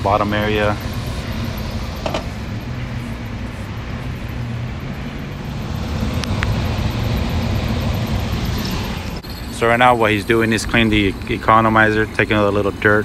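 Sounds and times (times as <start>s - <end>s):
blower humming: 0.0s - 13.0s.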